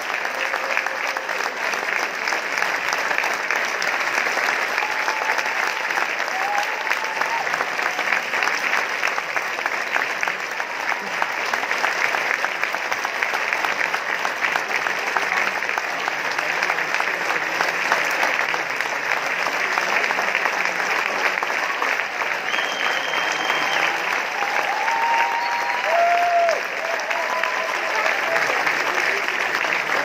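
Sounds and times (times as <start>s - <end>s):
audience clapping: 0.0s - 30.0s
voices in the crowd: 0.0s - 30.0s.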